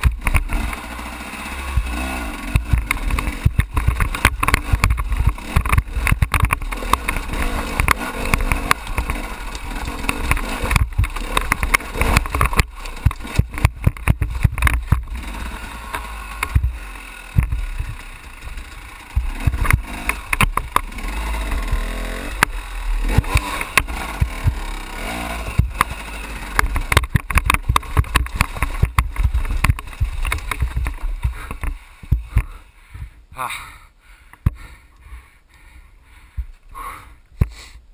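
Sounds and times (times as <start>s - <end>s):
motorcycle engine revving: 0.0s - 32.7s
wheels knocking on stones: 1.6s - 32.6s.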